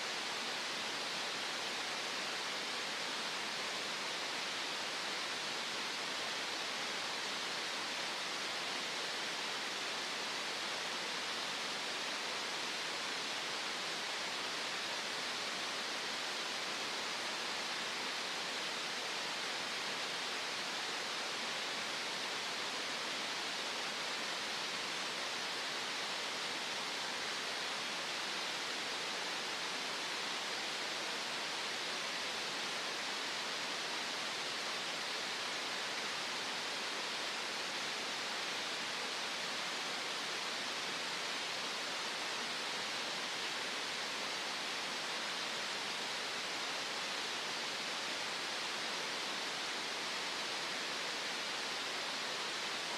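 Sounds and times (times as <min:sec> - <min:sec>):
steady green noise hiss: 0:00.0 - 0:52.9.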